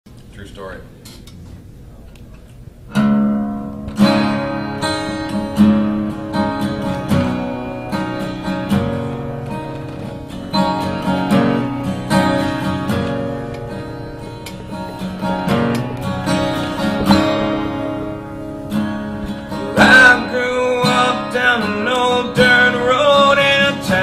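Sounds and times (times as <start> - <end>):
acoustic guitar strumming: 2.7 - 24.0.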